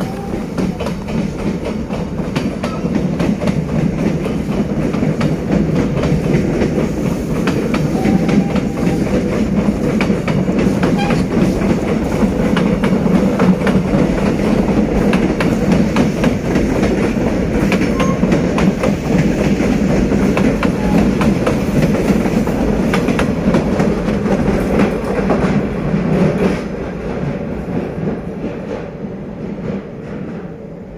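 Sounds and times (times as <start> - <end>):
train wheels clicking over rail joints: 0.0 - 30.8.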